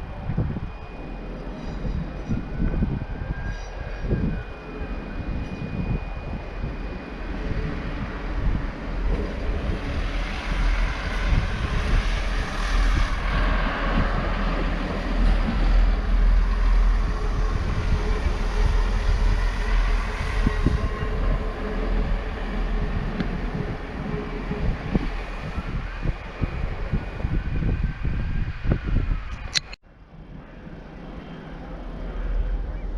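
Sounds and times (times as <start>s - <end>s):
train engine and wheel rumble: 0.0s - 32.9s.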